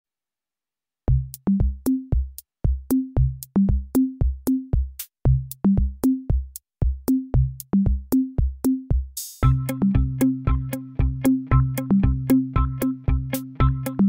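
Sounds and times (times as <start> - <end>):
electronic drum machine beat: 1.1 - 14.0.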